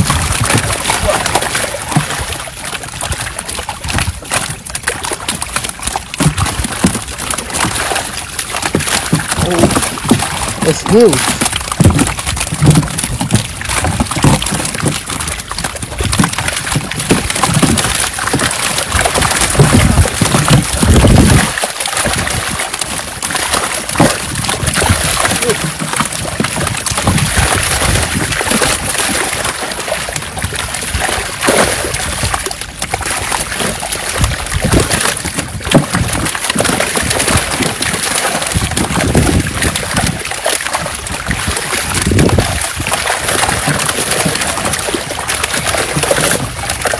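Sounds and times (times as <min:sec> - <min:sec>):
fish thrashing and splashing: 0:00.0 - 0:46.9.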